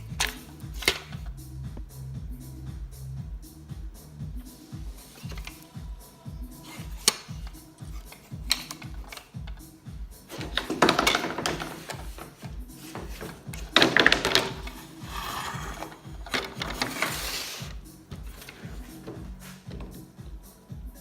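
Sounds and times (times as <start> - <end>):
background music with steady beat: 0.0 - 21.0.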